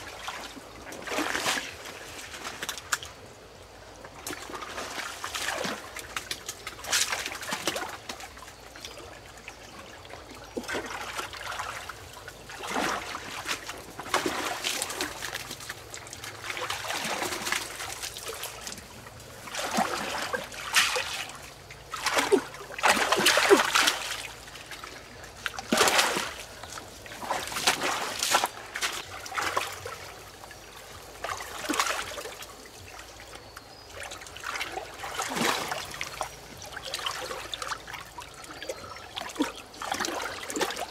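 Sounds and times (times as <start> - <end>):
shallow water splashing and trickling: 0.0 - 40.9.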